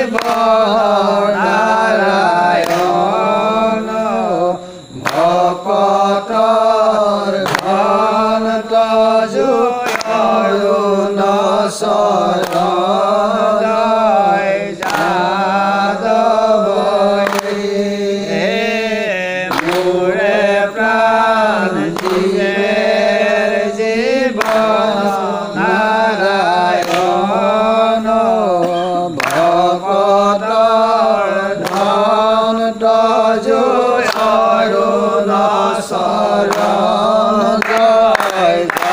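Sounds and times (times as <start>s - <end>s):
person chanting melody: 0.0s - 38.9s.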